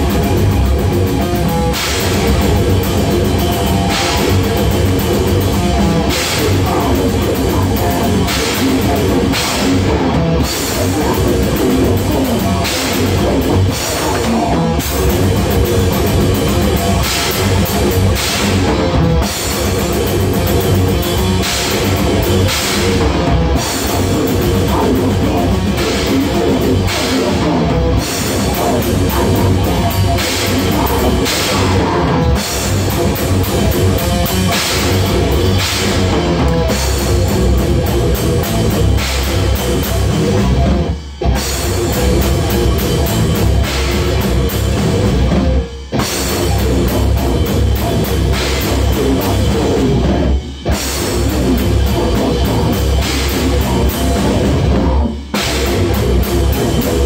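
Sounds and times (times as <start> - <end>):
distorted guitar: 0.0 - 57.0
drum kit with cymbals: 0.0 - 57.0.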